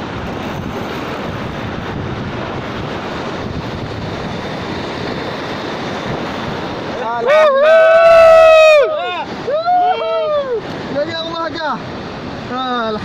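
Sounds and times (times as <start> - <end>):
sea surf washing against rocks: 0.0 - 13.0
wind buffeting microphone: 0.0 - 13.0.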